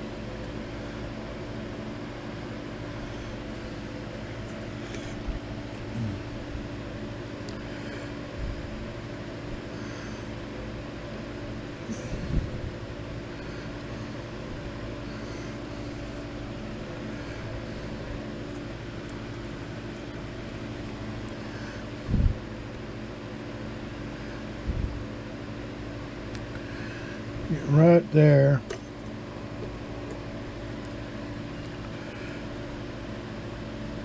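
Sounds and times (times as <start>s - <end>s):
steady machine hum: 0.0s - 34.0s.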